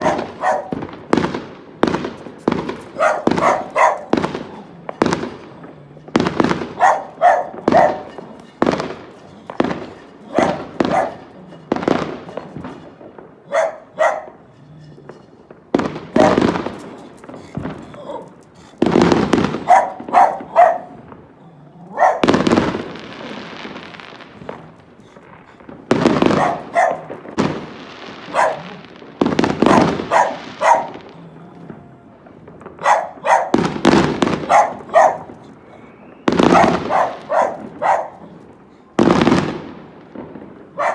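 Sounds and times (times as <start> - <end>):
dog barking: 0.0 - 40.9
fireworks bangs and pops: 0.0 - 40.9
fireworks hissing and crackling: 0.0 - 40.9.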